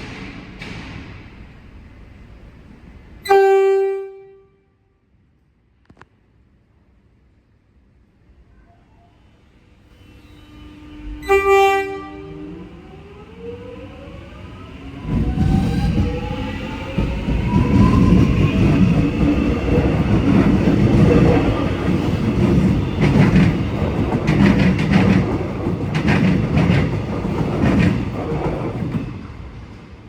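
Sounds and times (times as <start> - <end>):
heavy train rumble: 0.0 - 4.5, 9.8 - 30.0.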